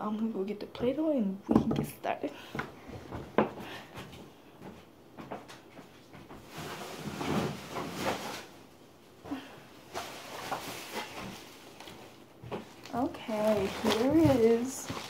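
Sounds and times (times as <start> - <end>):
rustling and shuffling: 2.4 - 15.0.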